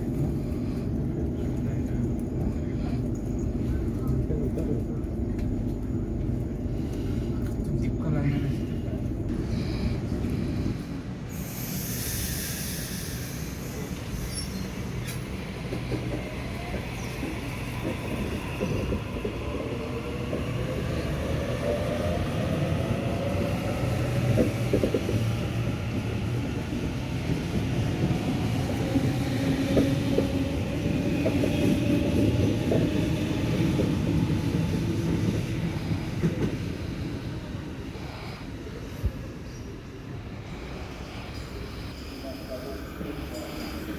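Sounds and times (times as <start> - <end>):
electric train rumbling and whining: 0.0 - 43.9.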